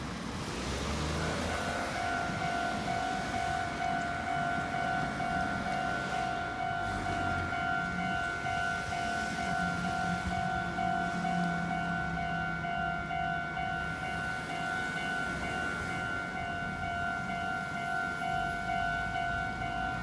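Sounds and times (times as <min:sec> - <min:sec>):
level crossing alarm clanging: 0:01.5 - 0:20.0.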